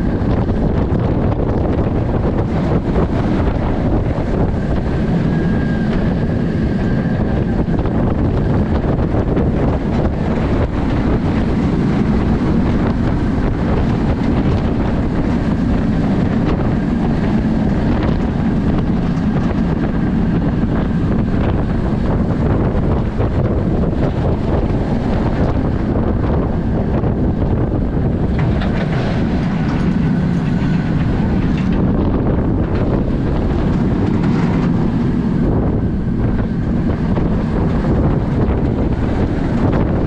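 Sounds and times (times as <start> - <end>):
roller coaster rumbling on track: 0.0 - 40.0
wind buffeting microphone: 0.0 - 40.0.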